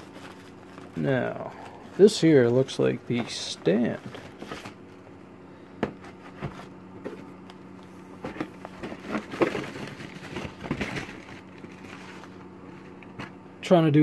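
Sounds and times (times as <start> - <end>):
packaging rustling and scraping: 0.0 - 5.2, 5.8 - 13.4
faint steady hum: 0.0 - 14.0.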